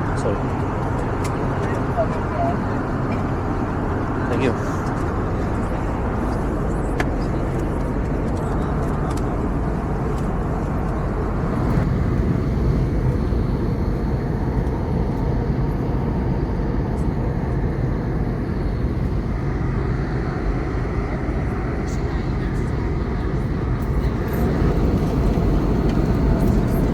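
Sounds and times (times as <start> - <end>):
airplane cabin engine rush: 0.0 - 26.9.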